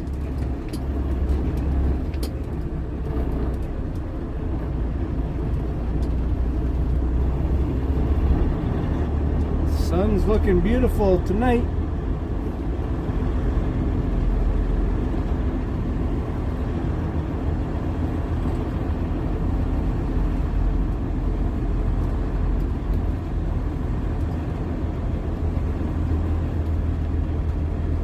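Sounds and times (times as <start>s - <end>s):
road noise: 0.0s - 28.0s
truck diesel engine droning: 0.0s - 28.0s.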